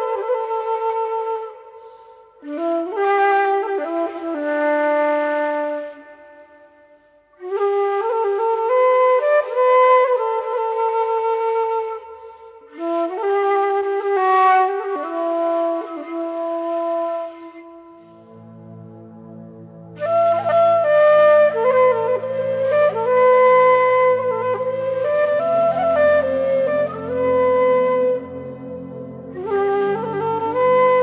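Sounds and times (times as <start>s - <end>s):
flute-like melody: 0.0s - 31.0s.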